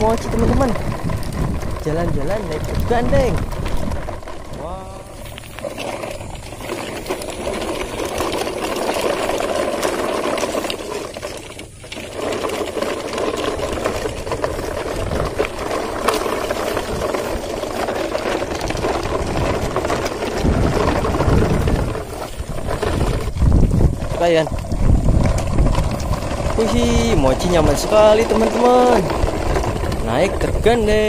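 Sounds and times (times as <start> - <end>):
toy wheels rattling on gravel: 0.0 - 31.0.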